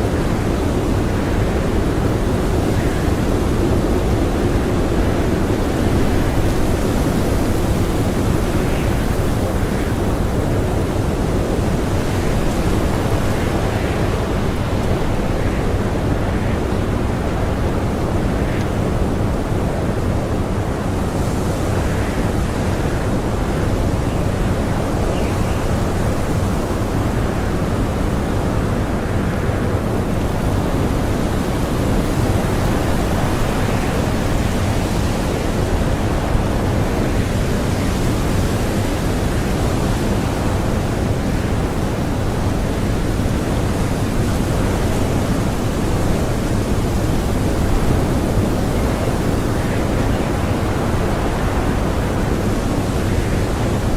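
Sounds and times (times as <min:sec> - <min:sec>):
blizzard wind blowing hard: 0:00.0 - 0:53.9.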